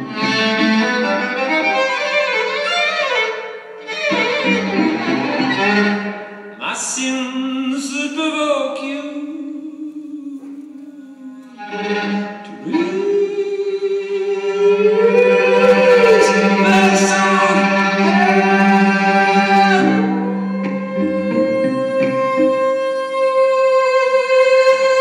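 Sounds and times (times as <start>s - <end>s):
bowed violin melody: 0.0s - 6.6s, 11.1s - 25.0s.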